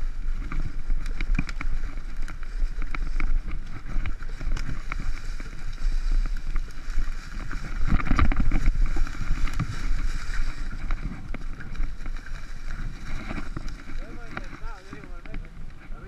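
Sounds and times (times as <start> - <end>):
tyres rumbling over dirt: 0.0 - 16.0
wind buffeting microphone: 0.0 - 16.0
bike clattering and clicking: 0.2 - 16.0.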